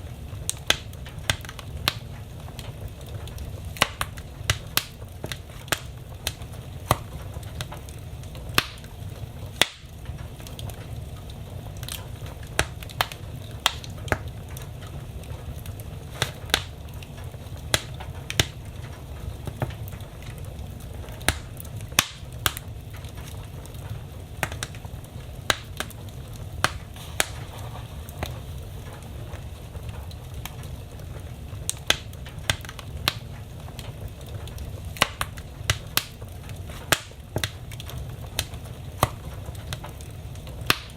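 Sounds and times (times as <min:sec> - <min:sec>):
low rumble of fire: 0:00.0 - 0:40.9
wood fire crackling and popping: 0:00.0 - 0:40.9.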